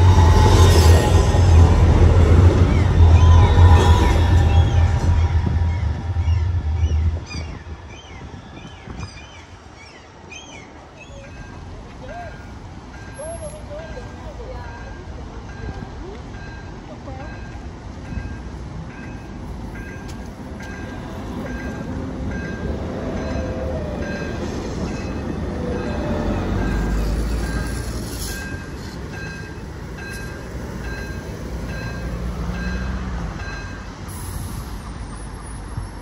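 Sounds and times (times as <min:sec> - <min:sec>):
tram rumbling on track: 0:00.0 - 0:36.0.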